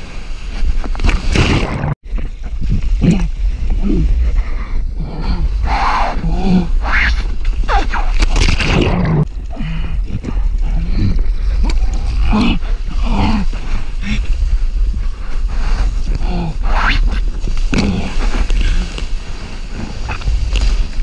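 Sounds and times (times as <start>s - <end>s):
low rumble of water: 0.0s - 21.0s.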